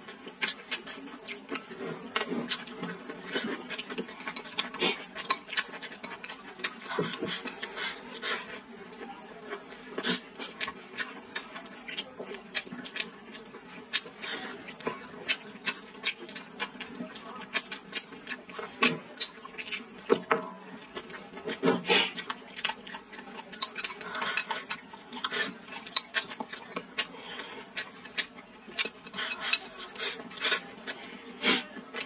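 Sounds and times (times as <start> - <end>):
chewing and lip smacking: 0.0 - 32.0.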